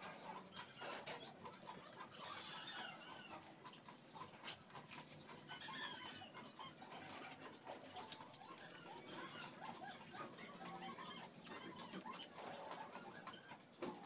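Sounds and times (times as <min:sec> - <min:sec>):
faint bird calls: 0:00.0 - 0:14.0.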